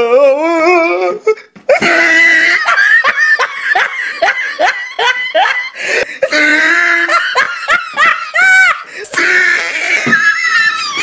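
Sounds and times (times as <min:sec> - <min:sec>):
high-pitched laughter: 0:01.7 - 0:11.0.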